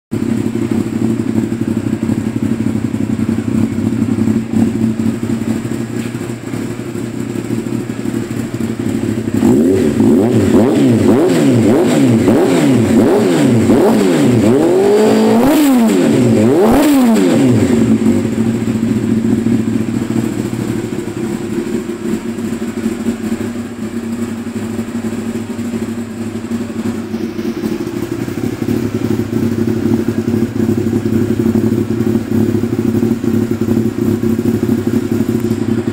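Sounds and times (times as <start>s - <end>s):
motorcycle engine idling and revving: 0.1s - 35.9s.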